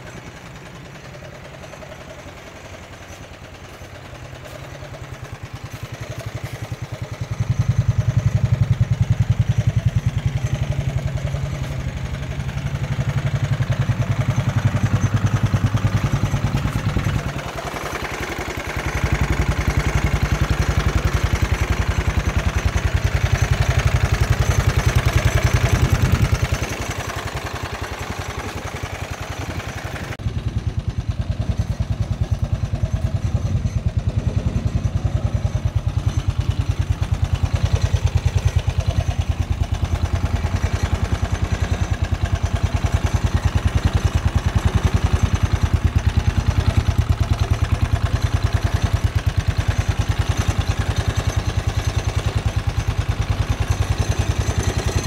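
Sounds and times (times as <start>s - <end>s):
buggy engine idling: 0.0s - 55.0s.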